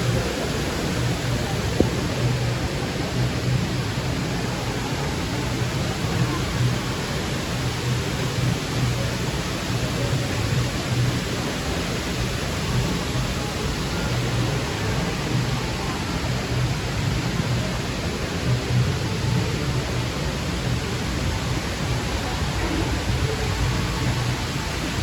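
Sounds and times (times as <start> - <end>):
faint crowd chatter: 0.0 - 25.0
rushing mall ambience: 0.0 - 25.0.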